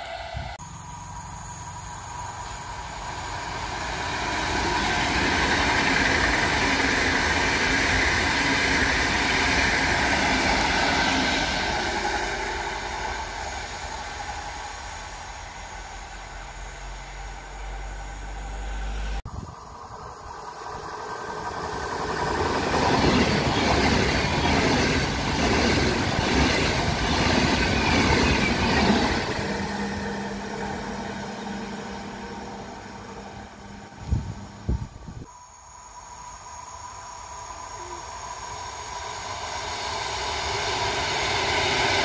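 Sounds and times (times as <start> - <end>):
high-speed train passing: 0.0 - 42.0.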